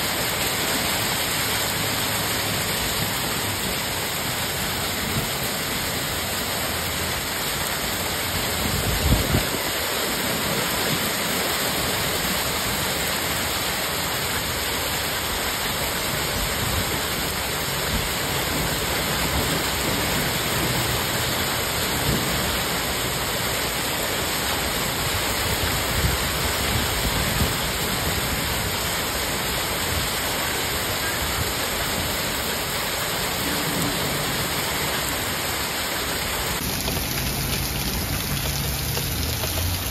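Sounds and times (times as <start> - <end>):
hail striking leaves and ground: 0.0 - 39.9.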